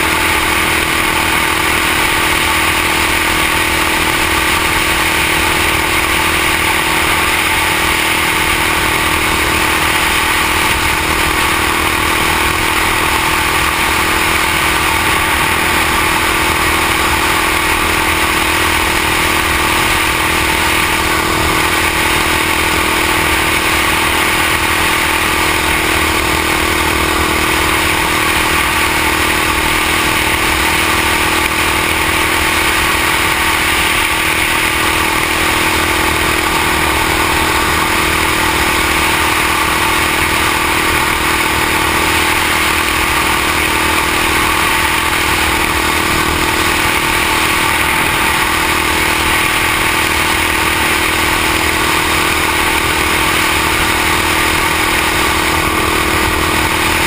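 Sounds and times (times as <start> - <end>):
single-cylinder engine running steadily: 0.0 - 57.0.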